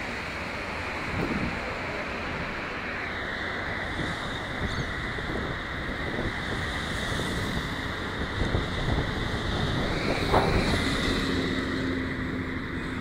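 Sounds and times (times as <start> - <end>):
road traffic passing: 0.0 - 13.0
wind buffeting microphone: 0.0 - 13.0.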